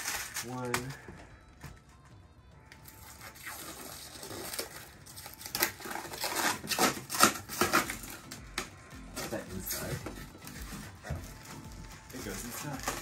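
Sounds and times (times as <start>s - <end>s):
packaging crinkling and tearing: 0.0s - 1.0s, 2.8s - 8.4s, 9.1s - 13.0s.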